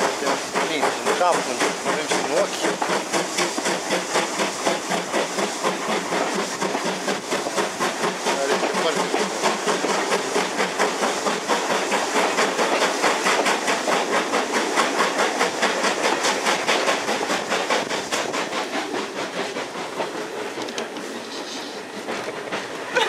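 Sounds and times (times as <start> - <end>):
steam train chugging: 0.0 - 23.0.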